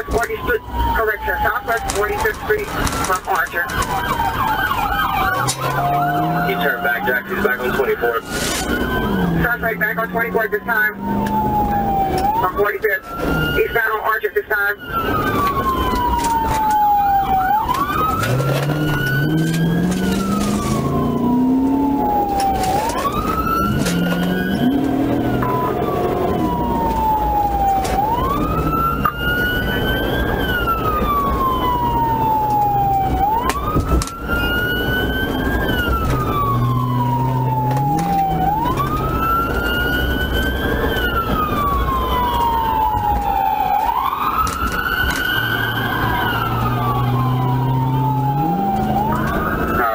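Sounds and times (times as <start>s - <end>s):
police siren wailing: 0.0s - 49.9s
road noise: 0.0s - 49.9s
car engine revving: 0.6s - 13.8s, 14.8s - 49.9s.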